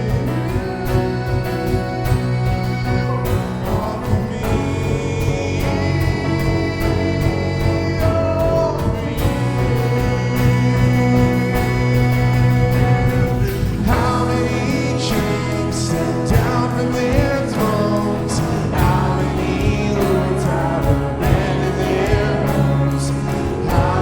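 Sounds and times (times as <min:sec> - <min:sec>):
drum hits: 0:00.0 - 0:24.0
voices singing: 0:00.0 - 0:24.0
worship band music: 0:00.0 - 0:24.0.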